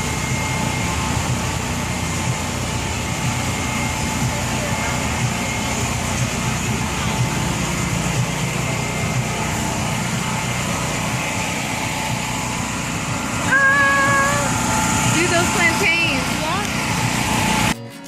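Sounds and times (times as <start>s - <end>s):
held pitched tone: 0.0s - 17.8s
low mechanical hum: 0.0s - 17.8s.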